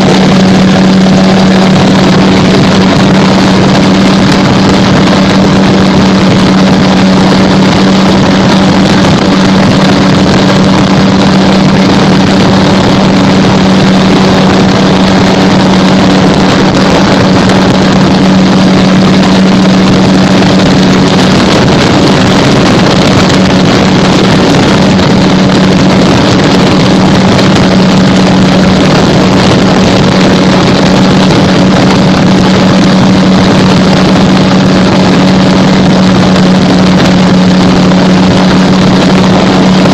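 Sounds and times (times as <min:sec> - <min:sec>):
gyrocopter engine droning: 0:00.0 - 0:39.9
wind rush over microphone: 0:00.0 - 0:39.9.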